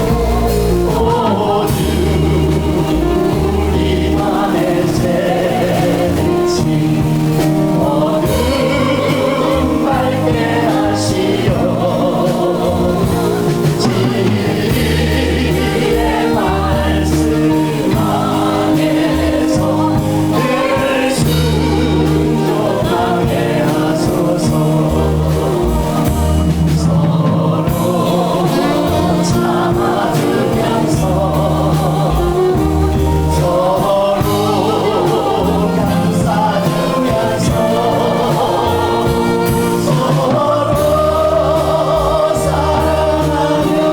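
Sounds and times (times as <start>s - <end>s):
choir singing a hymn: 0.0s - 43.9s
instrumental accompaniment: 0.0s - 43.9s.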